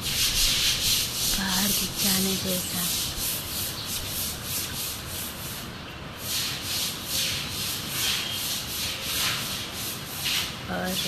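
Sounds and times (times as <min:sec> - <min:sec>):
rustling rubbing hiss: 0:00.0 - 0:11.0.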